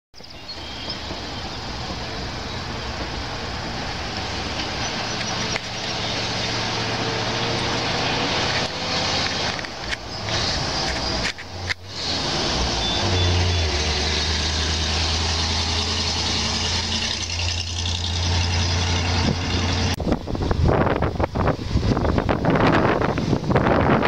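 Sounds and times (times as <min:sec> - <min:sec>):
fire truck engine approaching: 0:00.5 - 0:24.0.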